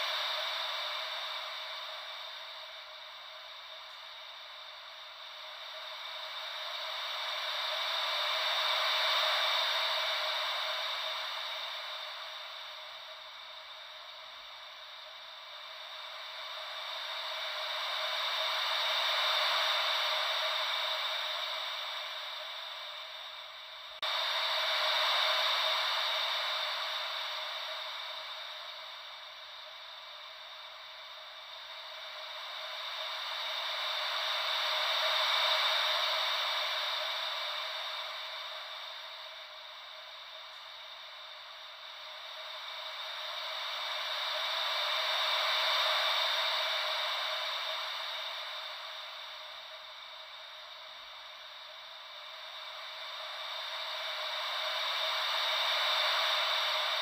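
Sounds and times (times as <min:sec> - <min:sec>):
ocean wave white noise: 0:00.0 - 0:57.0.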